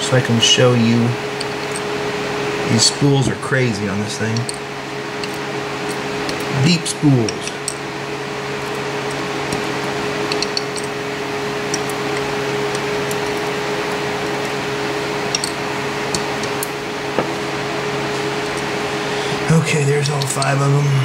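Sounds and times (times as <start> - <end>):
fan-like hum: 0.0 - 21.0.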